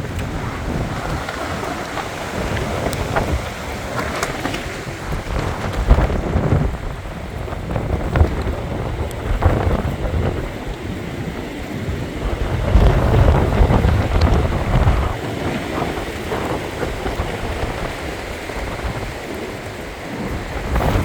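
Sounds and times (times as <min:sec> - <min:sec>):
gusting wind buffeting microphone: 0:00.0 - 0:21.0
rain: 0:00.0 - 0:21.0.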